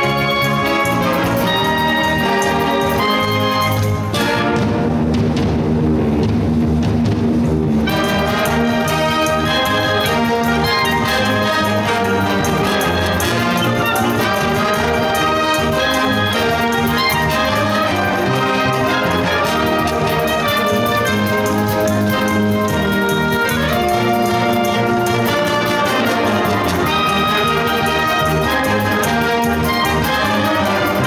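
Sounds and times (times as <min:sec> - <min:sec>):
wind band playing dance beat: 0:00.0 - 0:05.0, 0:07.8 - 0:31.0.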